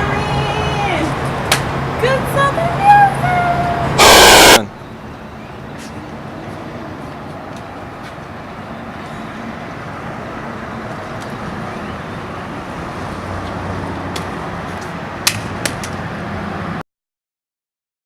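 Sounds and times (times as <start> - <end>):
road traffic noise: 0.0 - 16.8.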